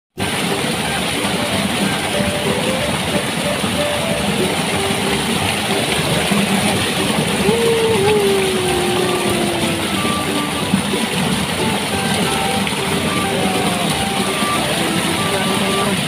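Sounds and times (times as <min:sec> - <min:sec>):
waterfall splashing into pool: 0:00.2 - 0:16.0.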